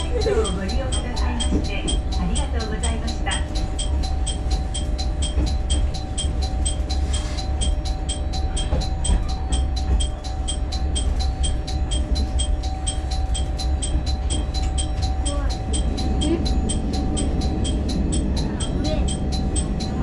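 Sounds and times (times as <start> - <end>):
diesel railcar rumbling: 0.0 - 20.0.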